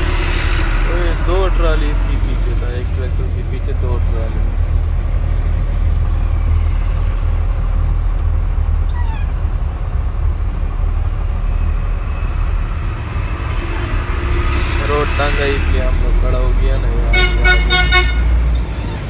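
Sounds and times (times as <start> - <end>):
road noise: 0.0 - 19.0
truck diesel engine drone: 0.0 - 19.0.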